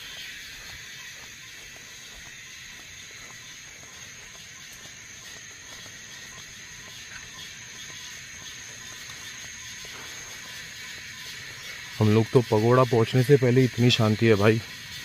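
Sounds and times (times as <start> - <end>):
faint ticks: 0.0 - 15.0
insects droning: 0.0 - 15.0.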